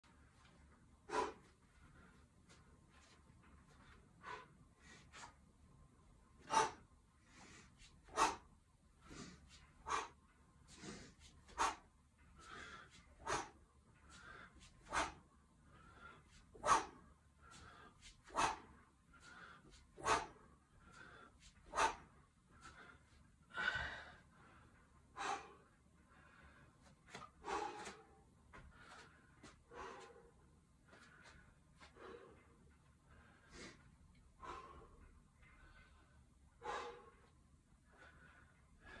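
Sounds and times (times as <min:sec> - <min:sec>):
heavy recovery breathing: 0:00.0 - 0:05.5, 0:06.3 - 0:39.0
sharp forceful breaths: 0:01.0 - 0:05.5, 0:06.3 - 0:39.0.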